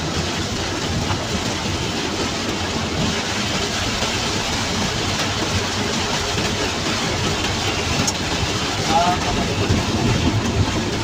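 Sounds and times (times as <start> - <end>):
rain on vehicle roof: 0.0 - 11.0
tyres hissing on wet road: 0.0 - 11.0
vehicle engine: 0.0 - 11.0.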